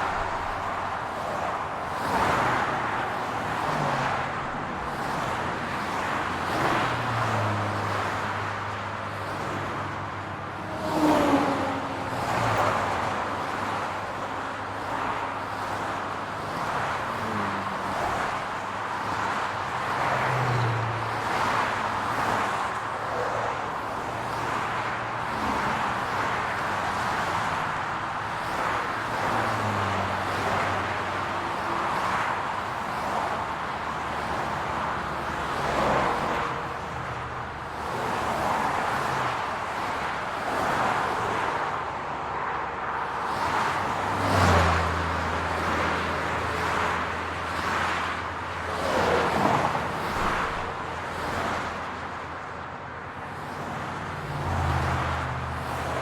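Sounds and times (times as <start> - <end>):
steady hum of traffic: 0.0 - 56.0
vehicles passing close by: 0.0 - 56.0.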